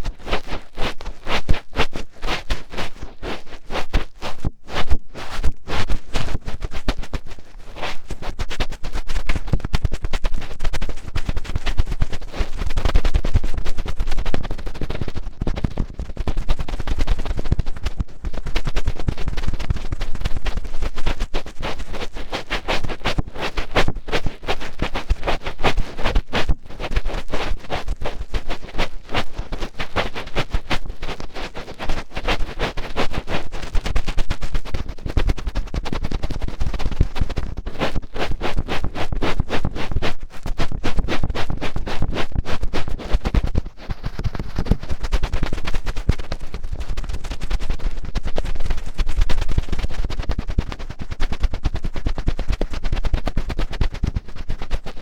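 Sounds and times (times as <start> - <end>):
fingertips scratching in ear: 0.0 - 55.0.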